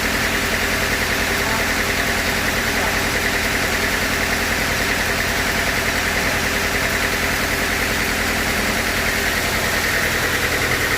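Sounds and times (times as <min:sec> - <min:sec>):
sawmill machinery droning: 0:00.0 - 0:10.9.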